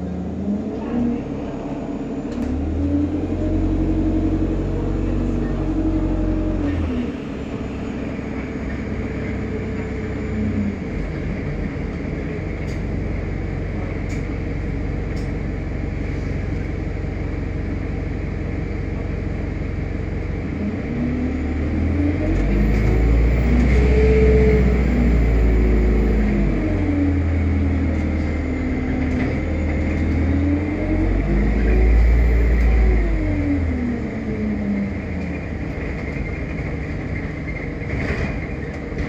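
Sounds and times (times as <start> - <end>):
bus diesel engine droning: 0.0 - 39.0.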